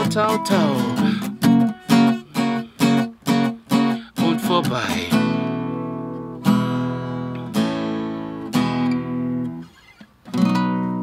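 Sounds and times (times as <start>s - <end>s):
acoustic guitar chords strummed: 0.0s - 11.0s.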